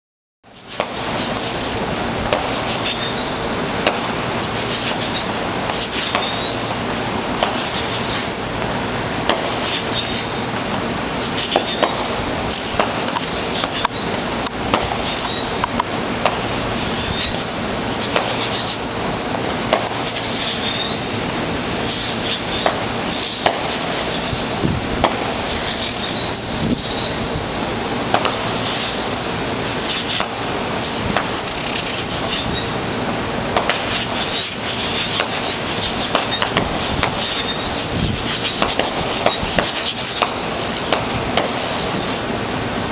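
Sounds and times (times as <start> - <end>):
fireworks popping and cracking: 0.5 - 42.9
steady rushing noise: 0.5 - 42.9.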